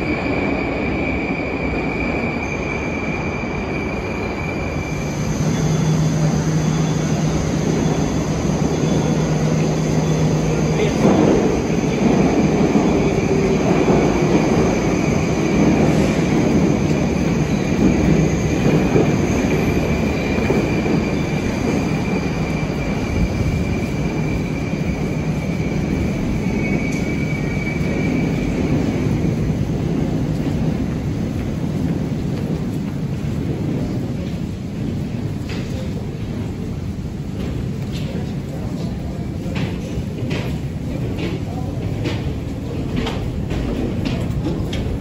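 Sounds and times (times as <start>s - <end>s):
metro train rumbling: 0.0s - 45.0s.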